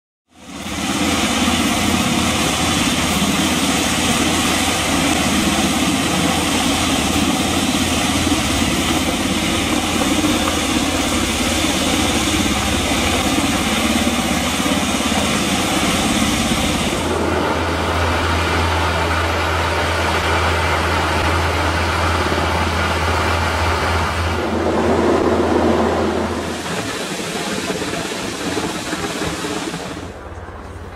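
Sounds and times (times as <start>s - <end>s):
helicopter hovering: 0.3s - 30.9s.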